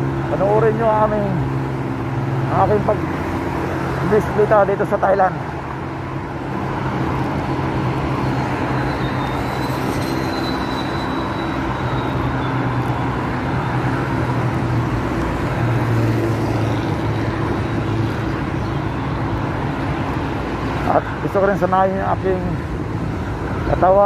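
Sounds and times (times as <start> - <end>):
road traffic noise: 0.0 - 24.0
vehicle engine hum: 0.0 - 24.0.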